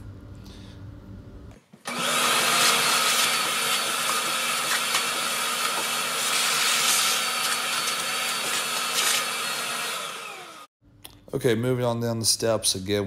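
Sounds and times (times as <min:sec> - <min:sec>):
shop vacuum running: 0:00.0 - 0:10.7.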